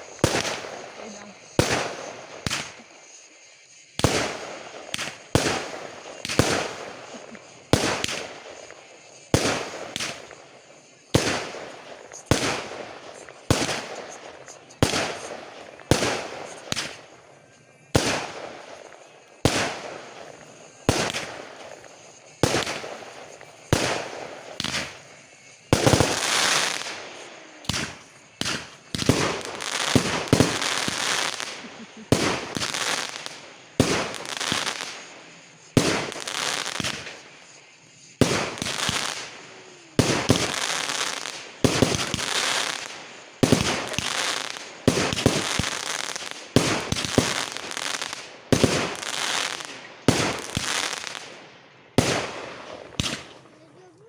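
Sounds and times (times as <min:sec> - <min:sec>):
fireworks banging and crackling: 0:00.0 - 0:54.0.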